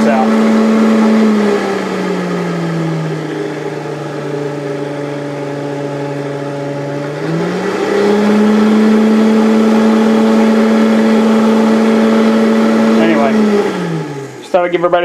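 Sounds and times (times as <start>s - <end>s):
forge blower motor whine: 0.0s - 15.0s.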